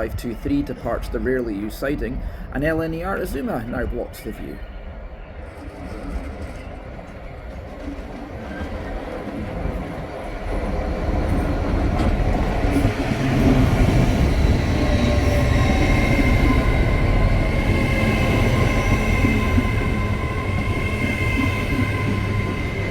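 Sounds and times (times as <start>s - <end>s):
train rumbling: 0.0s - 22.9s.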